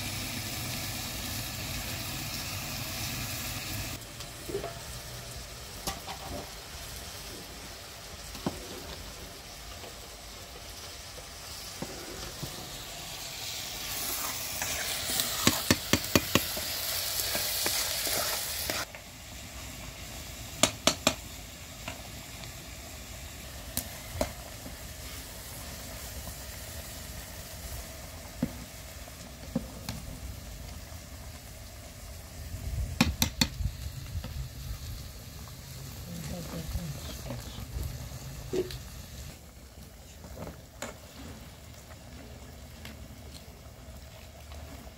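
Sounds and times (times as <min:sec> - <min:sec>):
food sizzling in a pan: 0:00.0 - 0:44.9.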